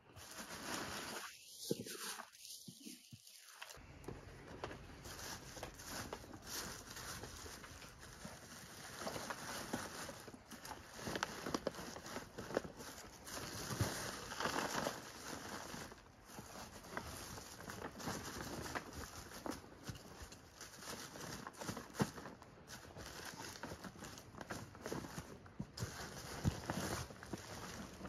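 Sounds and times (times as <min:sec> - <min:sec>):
dry leaves rustling and crackling: 0:00.1 - 0:28.0.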